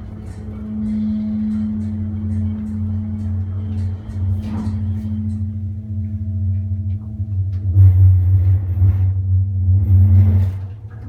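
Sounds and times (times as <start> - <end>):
elevator hum and rumble: 0.0 - 11.0.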